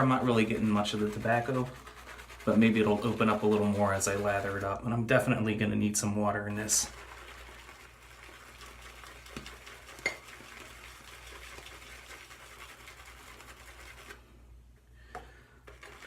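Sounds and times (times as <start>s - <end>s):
shaving brush scrubbing lather: 0.0s - 4.8s, 6.0s - 14.3s, 15.7s - 16.0s.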